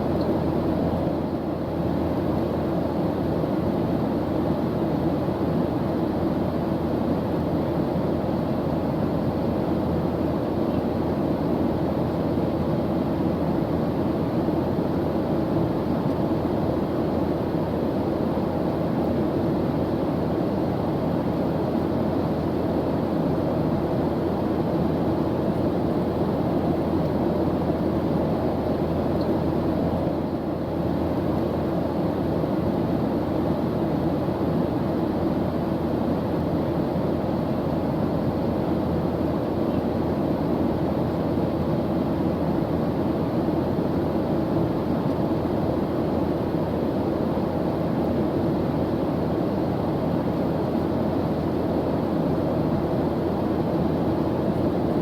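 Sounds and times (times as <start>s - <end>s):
airplane engine drone: 0.0s - 55.0s.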